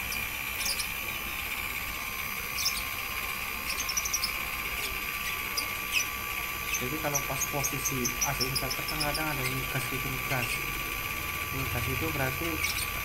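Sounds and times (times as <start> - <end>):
air conditioner compressor whine: 0.0 - 13.0.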